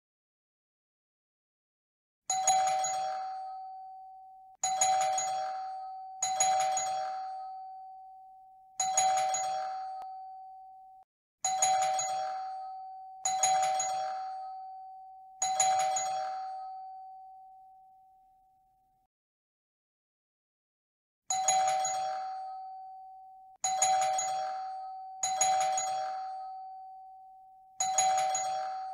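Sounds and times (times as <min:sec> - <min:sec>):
doorbell chime: 0:02.3 - 0:18.0, 0:21.3 - 0:28.9.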